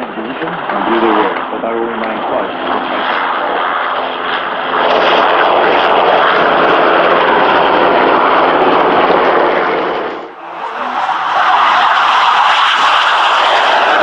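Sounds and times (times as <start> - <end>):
aircraft engine flypast: 0.5 - 14.0.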